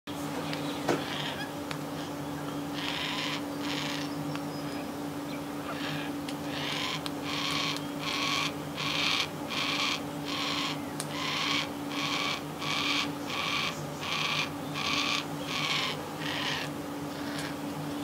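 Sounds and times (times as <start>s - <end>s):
young cockatoo rasping begging call: 1.0s - 4.8s, 5.6s - 17.6s.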